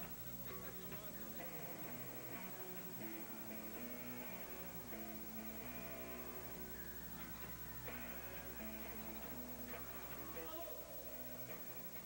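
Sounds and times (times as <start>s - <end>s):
drums keeping a steady beat: 0.0s - 12.0s
electric guitar: 0.0s - 12.0s.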